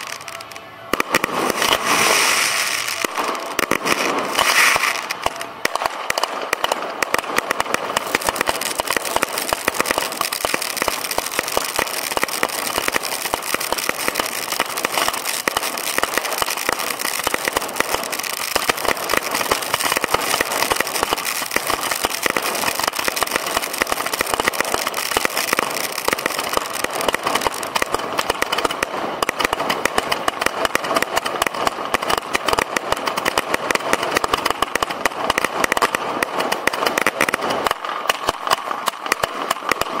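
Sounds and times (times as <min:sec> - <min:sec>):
fireworks launch pops: 0:00.0 - 0:40.0.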